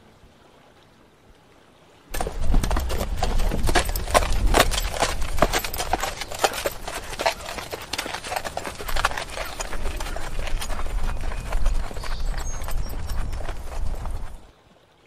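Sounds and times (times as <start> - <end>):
horse hooves on gravel: 2.1 - 14.5.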